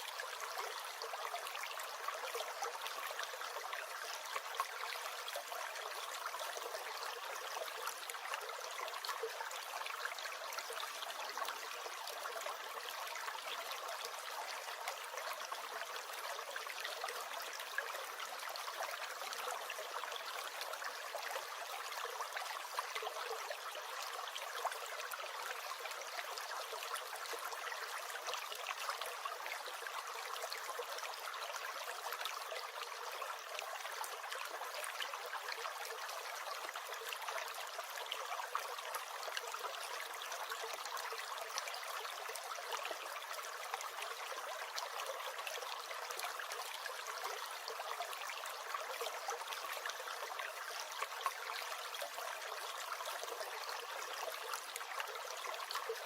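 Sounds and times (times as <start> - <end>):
stream gurgling: 0.0 - 56.0.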